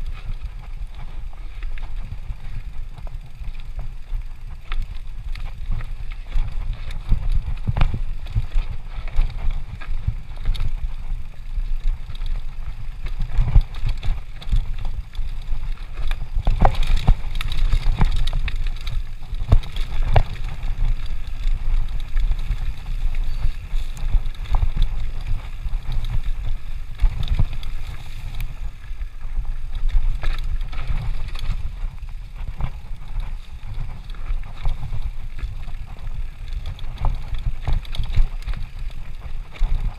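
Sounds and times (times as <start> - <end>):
bike rattling and knocking: 0.0 - 39.9
tyres rolling on dirt: 0.0 - 39.9
wind on microphone: 0.0 - 39.9.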